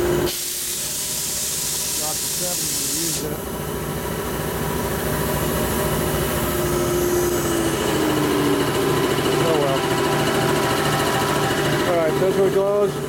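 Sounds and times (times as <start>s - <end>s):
air compressor running: 0.0s - 13.0s.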